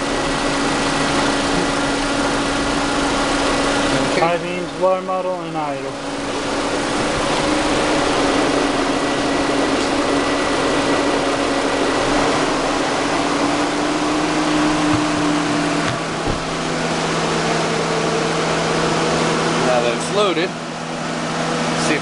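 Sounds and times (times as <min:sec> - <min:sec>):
steady hum: 0:00.0 - 0:21.7
car engine idling: 0:00.0 - 0:22.0.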